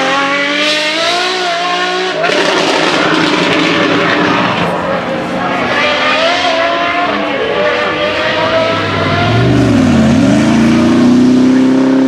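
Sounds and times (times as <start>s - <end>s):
engine running hard: 0.0s - 12.0s.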